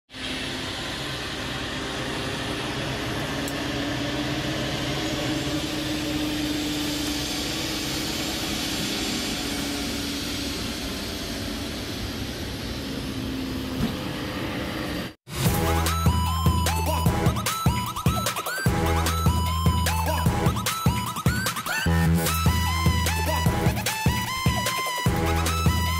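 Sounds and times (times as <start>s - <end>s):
aircraft turbine noise: 0.1s - 25.9s.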